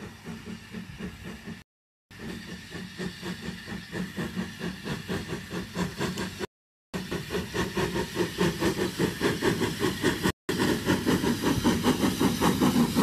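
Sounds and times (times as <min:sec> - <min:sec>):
steam train running: 0:00.0 - 0:13.0.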